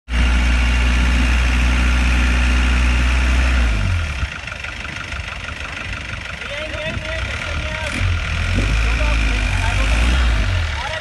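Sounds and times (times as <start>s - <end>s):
jeep engine running: 0.1s - 11.0s.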